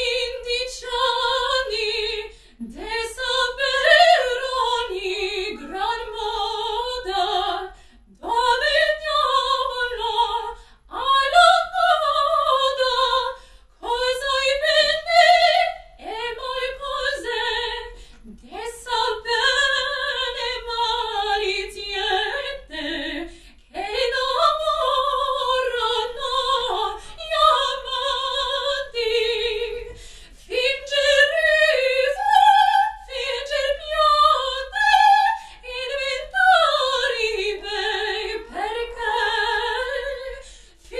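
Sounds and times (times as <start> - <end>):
operatic soprano singing: 0.0 - 40.9.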